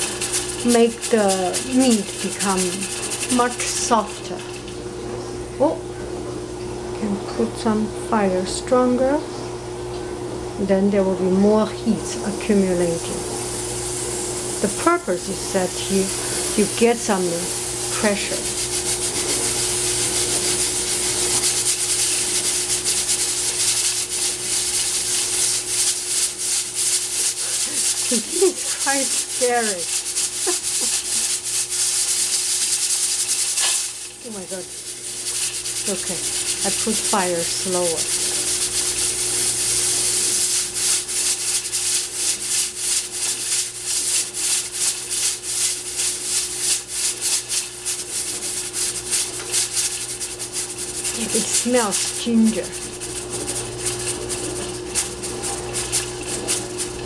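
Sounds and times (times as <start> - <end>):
pressure cooker hissing steam: 0.0 - 4.8, 11.7 - 57.0.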